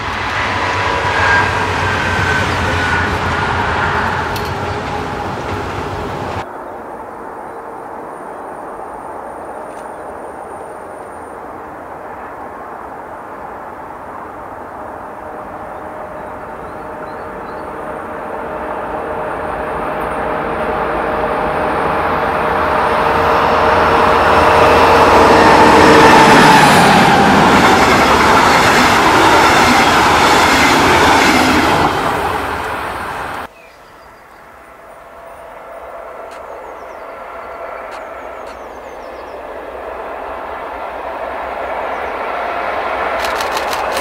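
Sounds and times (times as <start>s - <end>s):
diesel locomotive engine whine: 0.0s - 44.0s
distant locomotive approaching: 0.0s - 44.0s
train coaches rolling past: 0.0s - 44.0s.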